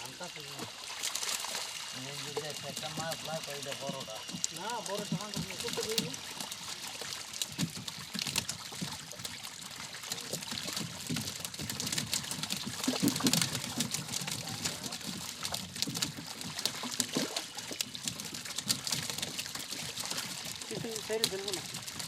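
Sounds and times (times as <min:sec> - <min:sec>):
water splashing and trickling: 0:00.0 - 0:22.0
small clicks and knocks: 0:02.2 - 0:22.0.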